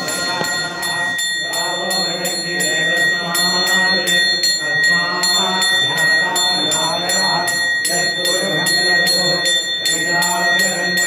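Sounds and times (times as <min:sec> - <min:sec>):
brass bell rung rapidly: 0:00.0 - 0:11.0.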